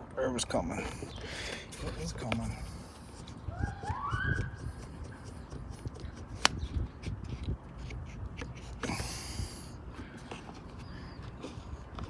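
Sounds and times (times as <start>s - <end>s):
soft handling noises: 0.4s - 12.0s
primer bulb being pumped: 1.1s - 12.0s.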